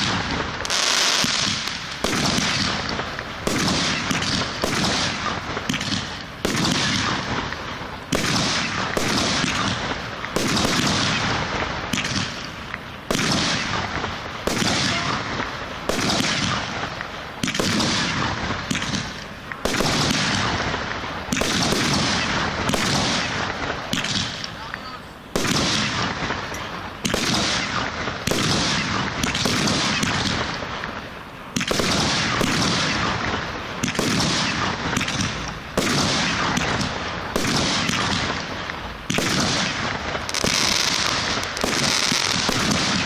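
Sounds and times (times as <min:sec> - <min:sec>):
firework shells bursting: 0:00.0 - 0:24.6, 0:25.3 - 0:43.0.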